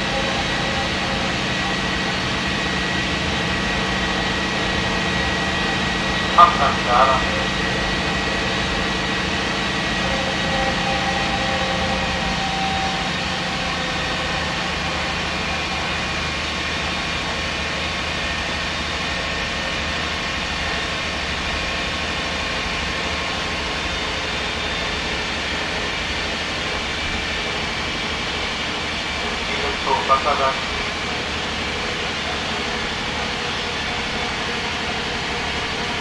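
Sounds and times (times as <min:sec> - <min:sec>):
faint whine: 0:00.0 - 0:18.6, 0:23.6 - 0:33.9
bus diesel engine drone: 0:00.0 - 0:36.0.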